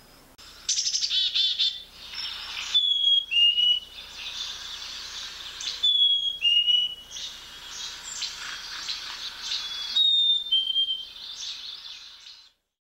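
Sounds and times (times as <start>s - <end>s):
bird chattering calls: 0.7s - 12.4s
chickadee whistled song: 0.7s - 12.5s.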